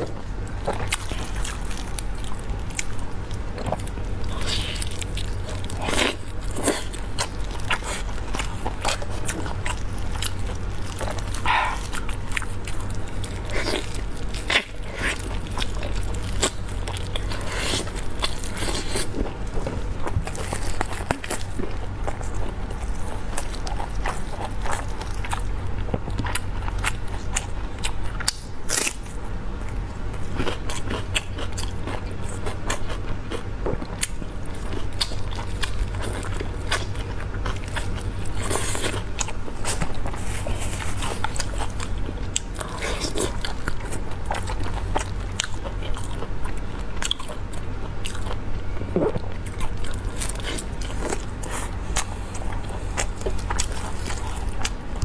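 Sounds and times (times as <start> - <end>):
biting and chewing meat: 0.0 - 55.0
steady low hum: 0.0 - 55.0.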